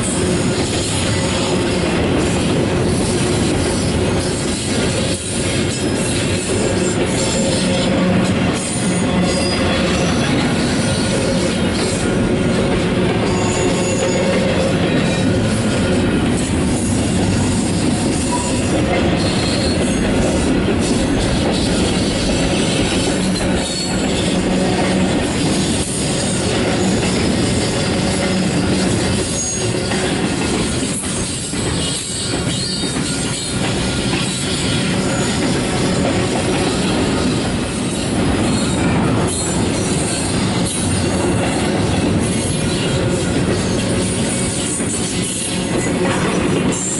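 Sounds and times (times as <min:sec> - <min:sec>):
freight train rolling past: 0:00.0 - 0:46.9.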